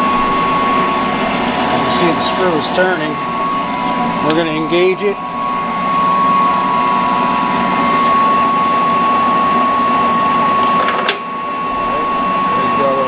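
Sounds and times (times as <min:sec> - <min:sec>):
lathe mechanical whine: 0:00.0 - 0:13.0.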